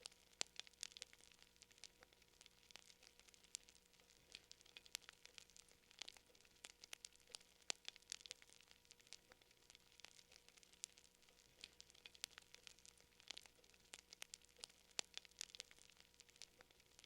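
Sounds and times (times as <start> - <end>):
faint fire crackling: 0.0 - 17.0
faint steady hum: 0.0 - 17.0.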